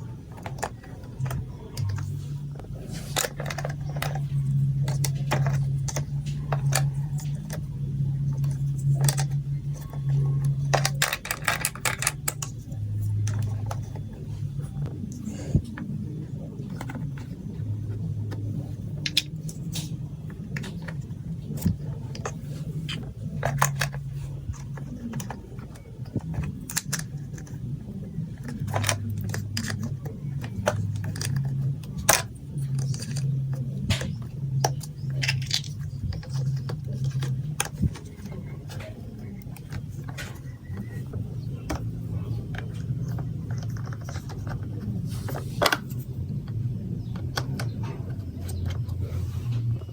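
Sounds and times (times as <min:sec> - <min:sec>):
plastic marbles clicking and clattering: 0:00.1 - 0:49.0.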